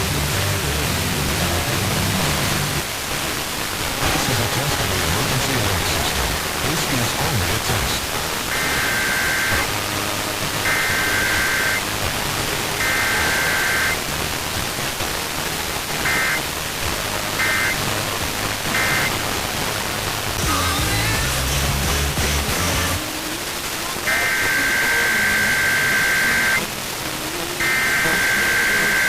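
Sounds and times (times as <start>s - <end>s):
buzzy two-tone data bursts: 0.0s - 23.0s, 24.0s - 26.8s, 27.6s - 29.0s
heavy radio hiss: 0.0s - 29.0s.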